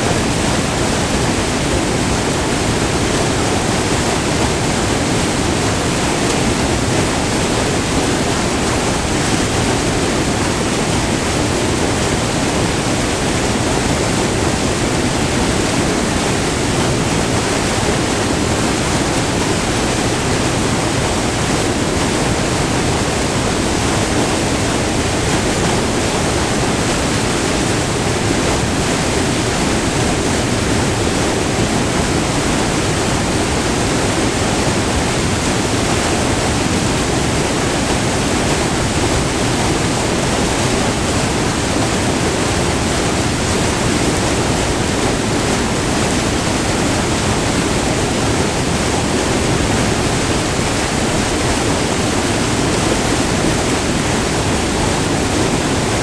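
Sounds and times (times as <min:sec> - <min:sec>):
waterfall rushing over rock: 0:00.0 - 0:56.0.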